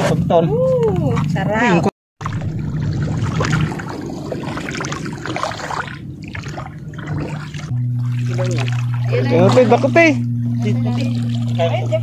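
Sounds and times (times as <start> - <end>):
water splashing and trickling: 0.9 - 12.0.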